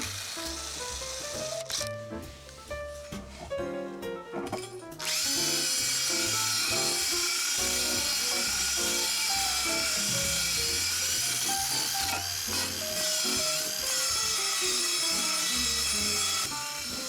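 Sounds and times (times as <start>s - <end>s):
power tool wire brush whining: 0.0s - 1.9s, 5.0s - 17.0s
background music: 0.0s - 17.0s.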